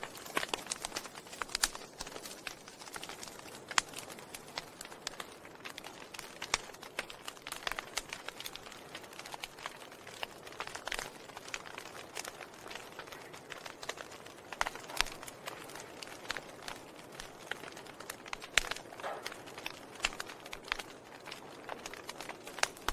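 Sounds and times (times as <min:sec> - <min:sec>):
fire hissing: 0:00.0 - 0:22.9
wood fire crackling and popping: 0:00.0 - 0:22.9.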